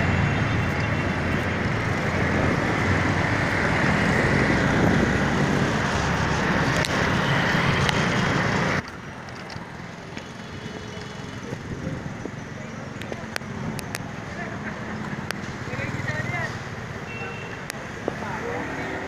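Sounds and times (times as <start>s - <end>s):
dense road traffic noise: 0.0s - 19.0s.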